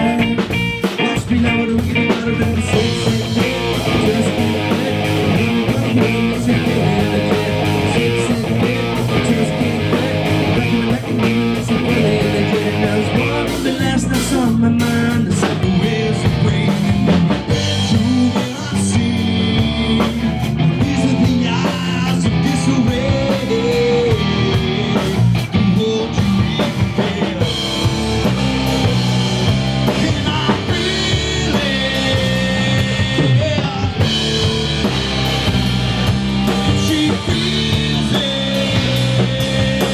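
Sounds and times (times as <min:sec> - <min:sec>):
bass guitar: 0:00.0 - 0:39.9
drum kit: 0:00.0 - 0:39.9
electric guitar: 0:00.0 - 0:39.9
male lead vocals: 0:00.0 - 0:39.9.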